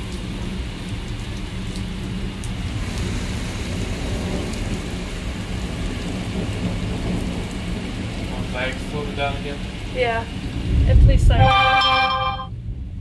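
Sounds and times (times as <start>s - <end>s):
low rumble of thunder: 0.0s - 11.7s, 12.5s - 13.0s
heavy rain pouring: 0.0s - 13.0s.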